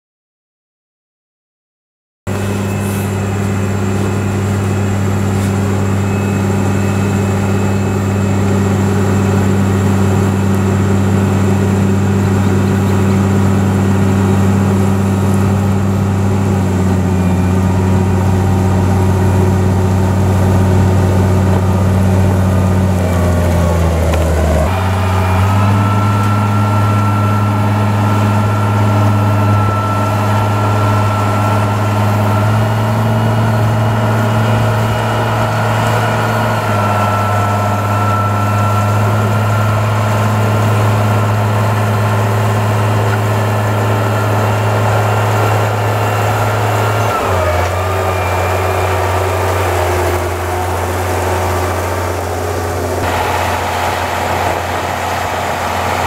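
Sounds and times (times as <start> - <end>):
diesel engine droning: 2.3 - 56.0.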